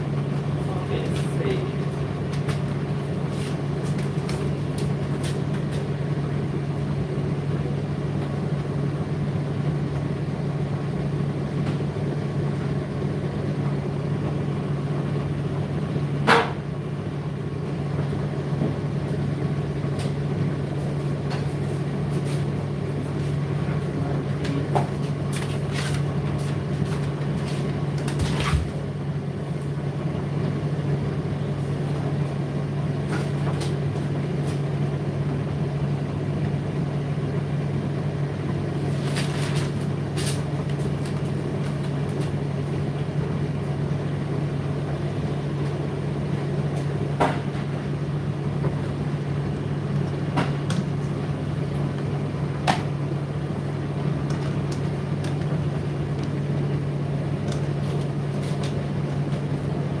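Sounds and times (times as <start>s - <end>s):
tumble dryer running: 0.0s - 60.0s.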